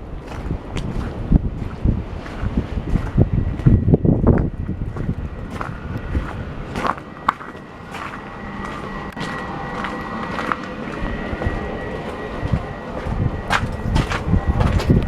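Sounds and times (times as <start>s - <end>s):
gusting wind on microphone: 0.0s - 15.0s.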